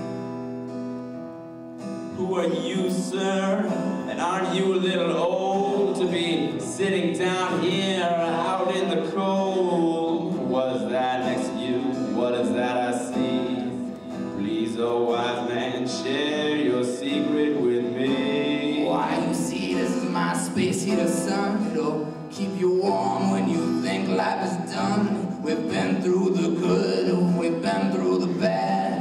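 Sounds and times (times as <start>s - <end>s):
acoustic guitar: 0.0s - 29.0s
man singing: 2.1s - 29.0s.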